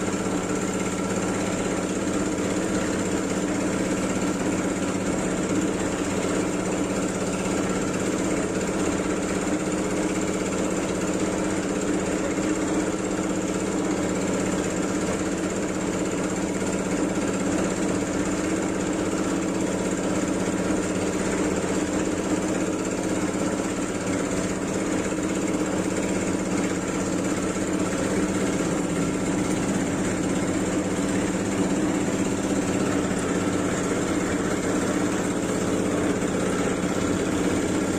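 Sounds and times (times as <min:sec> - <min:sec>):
water pump humming: 0:00.0 - 0:37.9.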